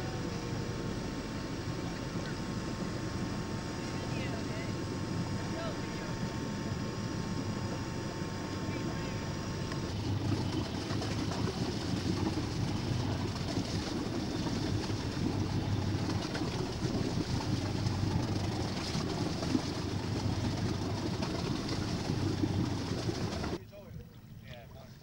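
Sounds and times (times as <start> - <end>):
wind and water hiss: 0.0 - 23.9
boat engine drone: 0.0 - 25.0.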